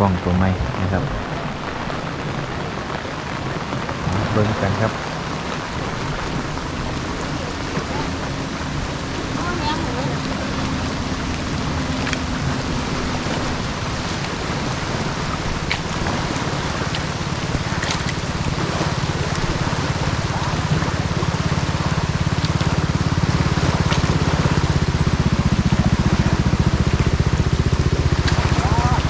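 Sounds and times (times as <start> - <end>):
low rumble: 0.0 - 29.0
rain falling: 0.0 - 29.0.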